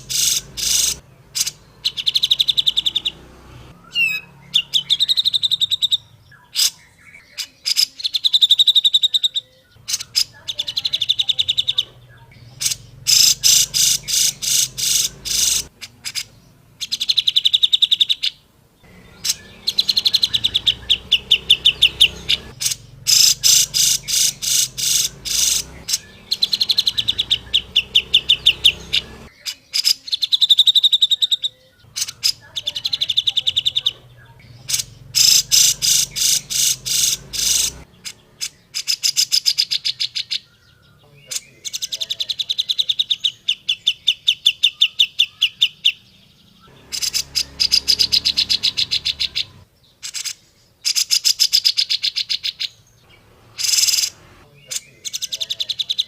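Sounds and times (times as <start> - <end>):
bird chattering song: 0.0 - 56.0.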